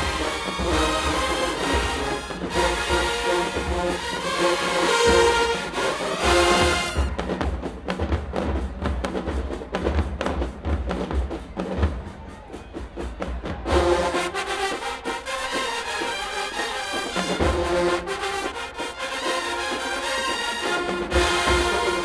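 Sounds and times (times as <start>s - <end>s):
marching band with brass: 0.0s - 22.0s
marching drumline: 0.0s - 22.0s.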